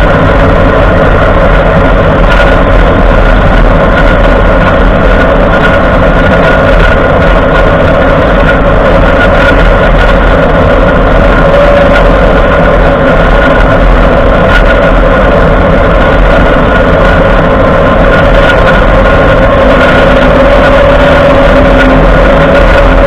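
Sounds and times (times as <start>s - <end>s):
even ringing tone: 0.0s - 23.0s
truck drivetrain grinding hum: 0.0s - 23.0s.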